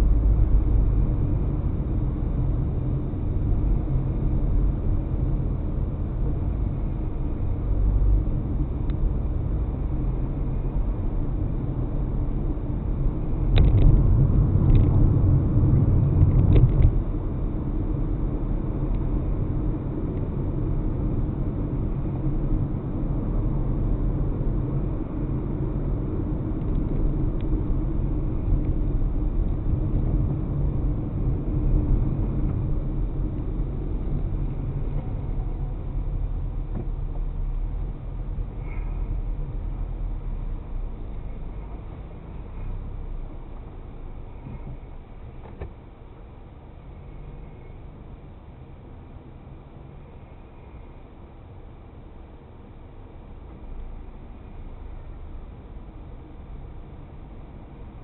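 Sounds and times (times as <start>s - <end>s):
car interior rumble: 0.0s - 58.0s.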